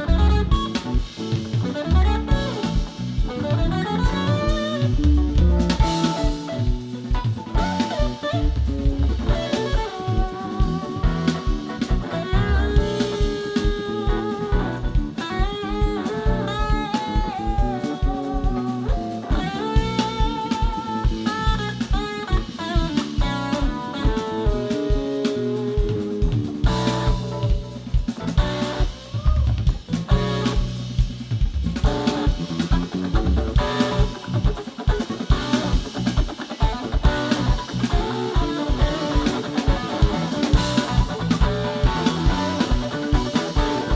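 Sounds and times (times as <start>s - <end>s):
busy drumming: 0.0s - 43.9s
lead guitar with bent notes: 0.0s - 43.9s
rock band playing: 0.0s - 43.9s.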